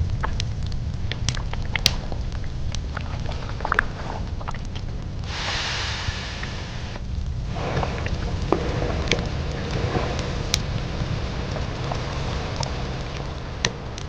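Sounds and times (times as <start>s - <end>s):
steady hiss: 0.0s - 14.0s
steady low rumble: 0.0s - 14.0s.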